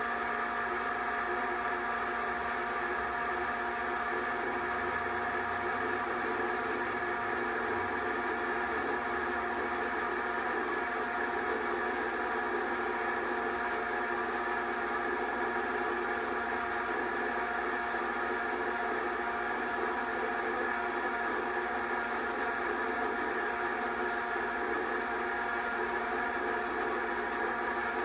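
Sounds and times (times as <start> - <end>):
film projector whirring: 0.0 - 28.0.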